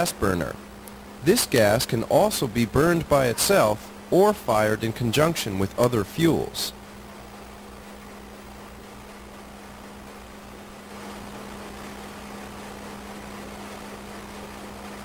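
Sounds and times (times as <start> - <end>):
constant low hum: 0.0 - 15.0
machinery droning: 0.0 - 15.0.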